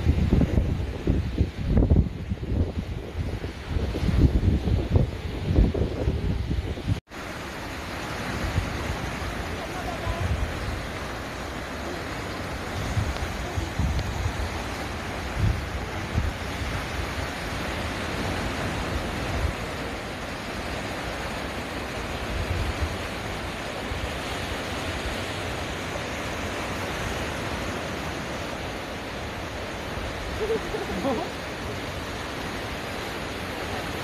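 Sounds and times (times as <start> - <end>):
surf breaking over rocks: 0.0 - 34.0
wind rumble on microphone: 0.0 - 34.0.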